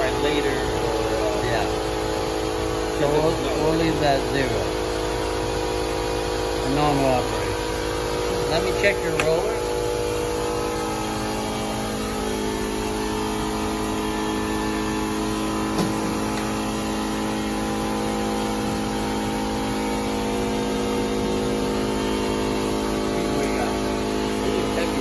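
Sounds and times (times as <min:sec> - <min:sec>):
folding machine humming: 0:00.0 - 0:25.0.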